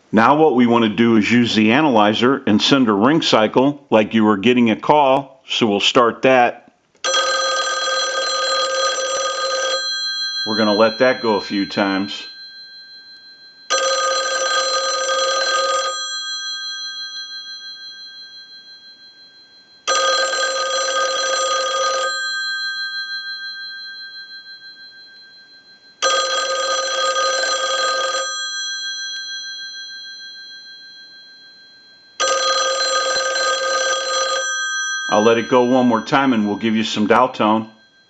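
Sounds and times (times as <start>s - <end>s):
payphone ringer bells ringing: 7.0s - 38.0s.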